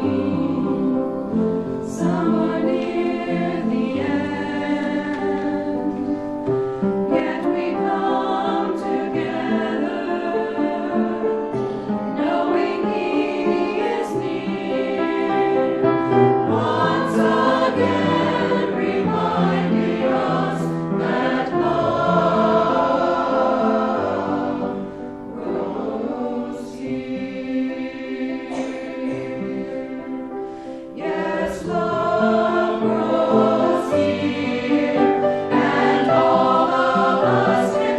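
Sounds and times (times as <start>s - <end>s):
choir singing long notes: 0.0s - 37.9s.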